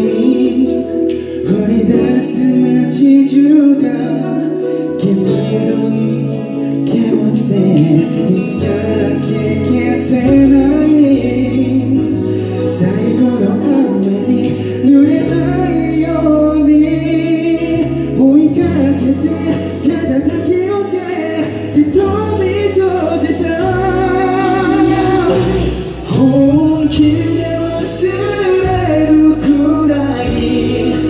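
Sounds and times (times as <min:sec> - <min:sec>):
backing track music: 0:00.0 - 0:31.0
man singing into a microphone: 0:00.0 - 0:31.0.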